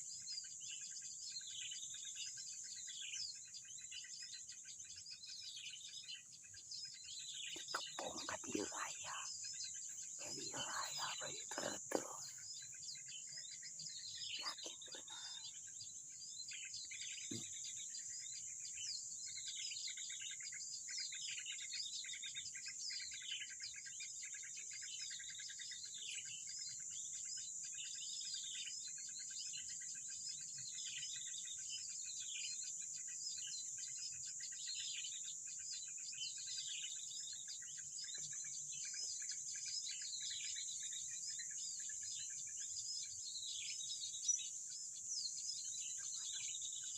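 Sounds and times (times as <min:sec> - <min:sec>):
birds chirping: 0:00.1 - 0:24.2, 0:25.1 - 0:46.9.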